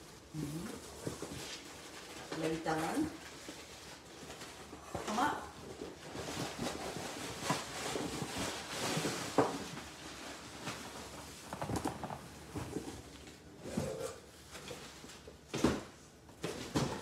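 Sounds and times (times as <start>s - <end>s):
cardboard rustling and scraping: 0.2s - 17.0s.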